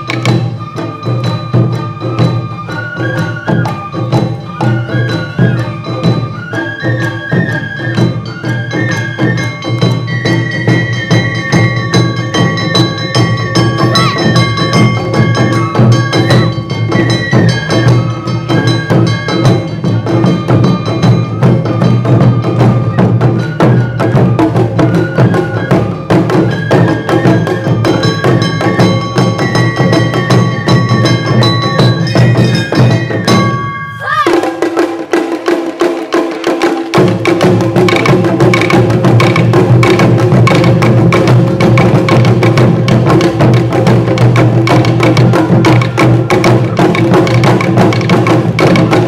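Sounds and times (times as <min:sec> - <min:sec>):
bamboo flute melody: 0:00.0 - 0:49.0
taiko drumming: 0:00.0 - 0:49.0.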